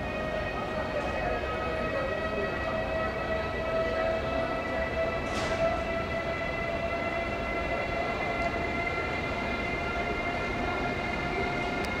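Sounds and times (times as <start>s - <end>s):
train whine of held tones: 0.0s - 12.0s.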